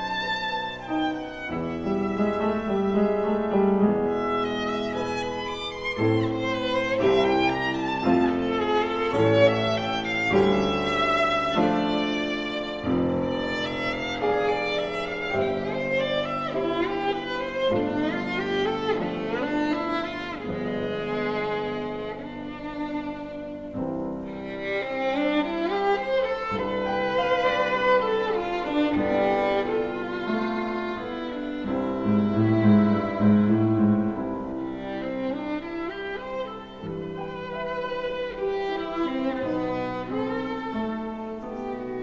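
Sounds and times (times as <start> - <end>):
slow violin and string melody: 0.0 - 42.0.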